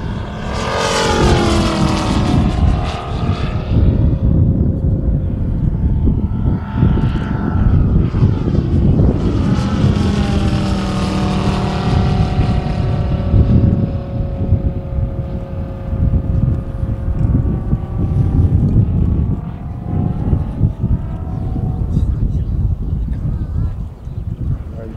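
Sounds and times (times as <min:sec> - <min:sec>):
model airplane engine flying past: 0:00.0 - 0:24.9
wind rumble on microphone: 0:00.0 - 0:24.9.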